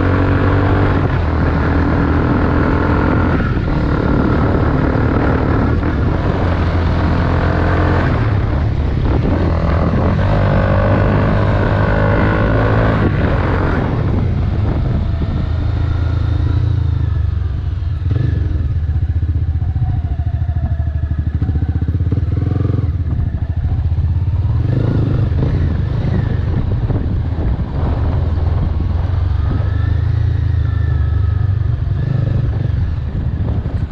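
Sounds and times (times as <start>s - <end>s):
motorcycle engine revving loud: 0.0s - 33.9s.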